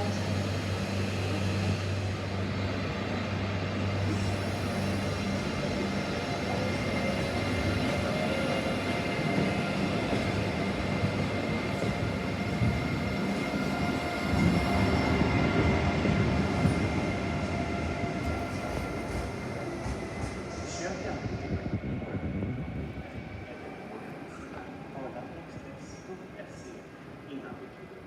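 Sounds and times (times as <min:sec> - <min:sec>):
train running: 0:00.0 - 0:27.2.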